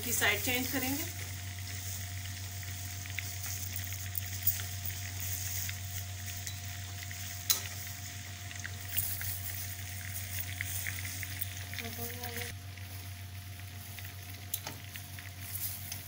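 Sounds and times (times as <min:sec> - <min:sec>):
steady low hum: 0:00.0 - 0:16.0
vegetables sizzling in oil: 0:00.0 - 0:16.0.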